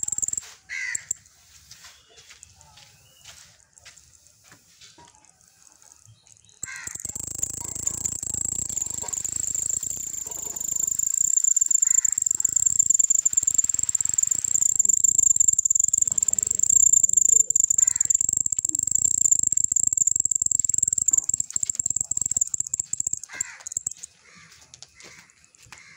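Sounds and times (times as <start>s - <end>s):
cricket trilling: 0.0s - 1.2s, 5.0s - 25.9s.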